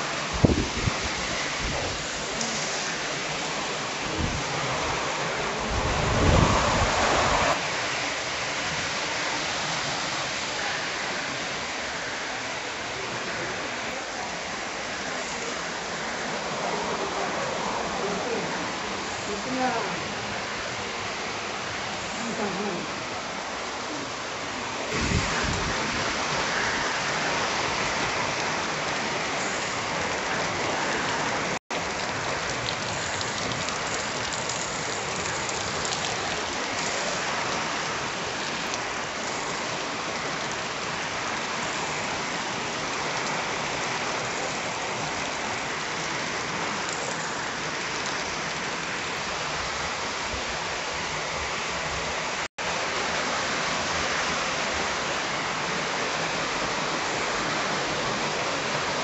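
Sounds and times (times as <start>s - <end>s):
heavy rain on puddles: 0.0s - 59.0s.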